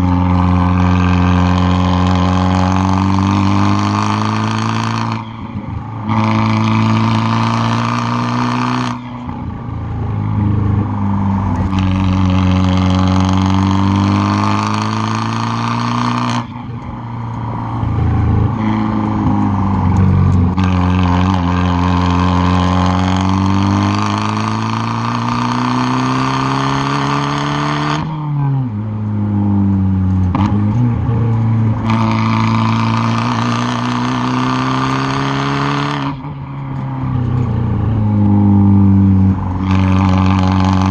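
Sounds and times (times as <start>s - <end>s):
car exhaust revving: 0.0s - 40.9s.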